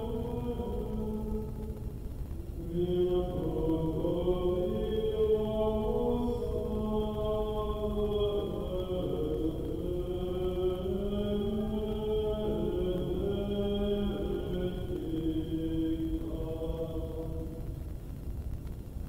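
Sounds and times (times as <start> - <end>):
low room rumble: 0.0 - 19.0
slow sung chant: 0.0 - 19.0.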